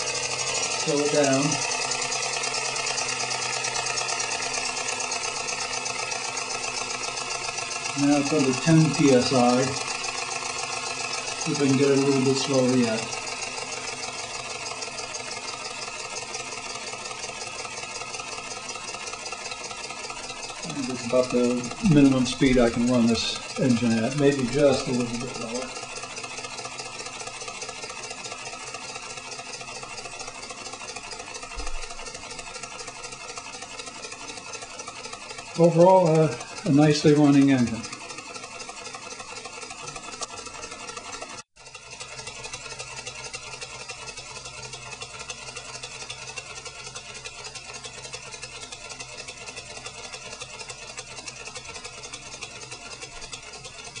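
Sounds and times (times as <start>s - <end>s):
model engine ticking: 0.0s - 54.0s.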